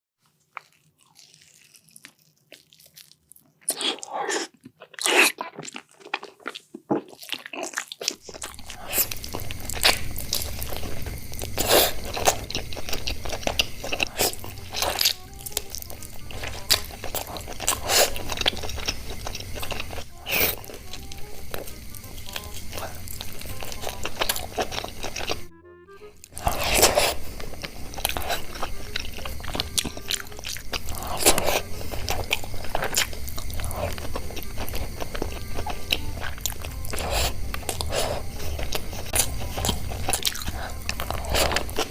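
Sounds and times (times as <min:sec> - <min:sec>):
crunching and chewing food: 0:00.2 - 0:41.9.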